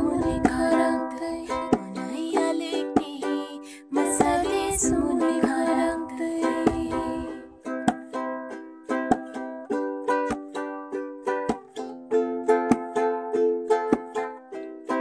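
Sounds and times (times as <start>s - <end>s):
ukulele strumming: 0.0s - 15.0s.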